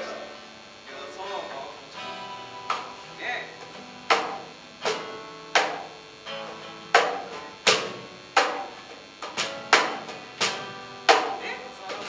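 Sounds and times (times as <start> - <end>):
acoustic band accented hits: 1.9 - 12.0.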